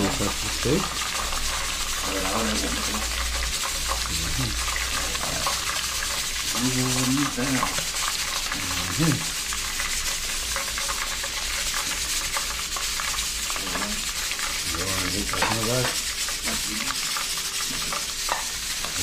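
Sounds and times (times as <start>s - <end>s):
fish deep-frying in hot oil: 0.0s - 19.0s.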